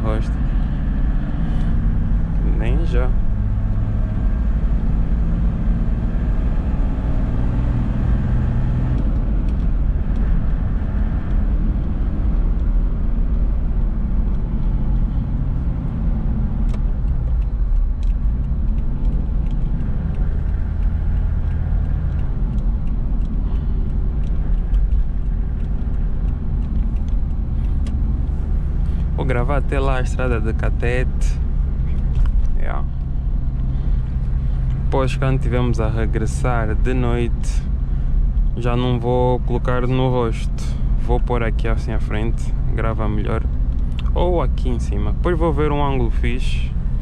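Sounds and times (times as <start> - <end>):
engine and tyre drone in cab: 0.0 - 47.0.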